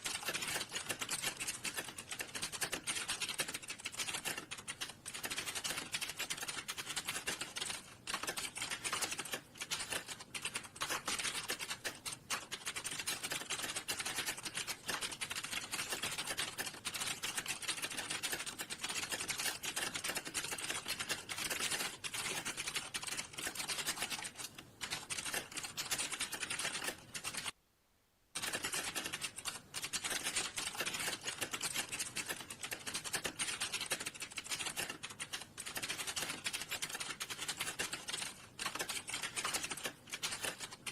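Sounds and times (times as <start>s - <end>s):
fast typing on keyboard: 0.0s - 27.6s, 28.4s - 40.9s.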